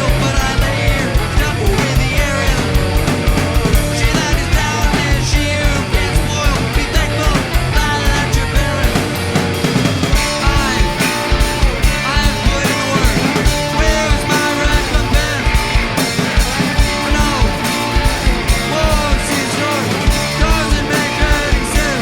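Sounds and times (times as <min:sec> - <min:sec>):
drum hits: 0:00.0 - 0:22.0
punk rock band playing: 0:00.0 - 0:22.0.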